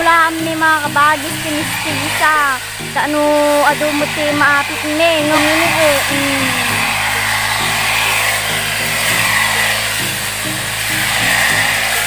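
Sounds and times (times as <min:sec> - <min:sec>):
background music: 0:00.0 - 0:12.0
brush cutter engine whining: 0:00.0 - 0:12.0.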